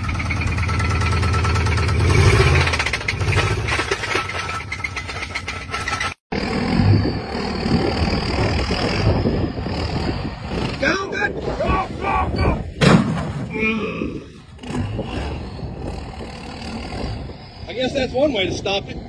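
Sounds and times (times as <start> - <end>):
diesel engine clattering: 0.0 - 11.8, 12.5 - 19.0
truck engine running unevenly: 0.0 - 19.0.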